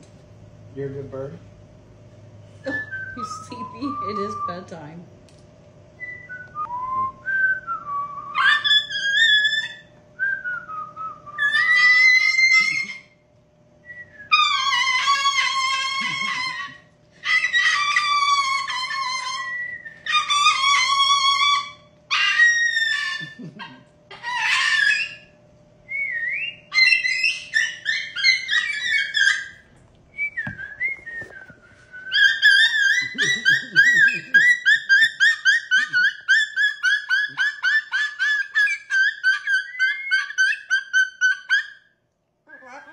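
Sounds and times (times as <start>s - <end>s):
cockatoo whistling: 2.6s - 4.8s, 6.0s - 13.2s, 13.8s - 23.5s, 24.1s - 41.9s.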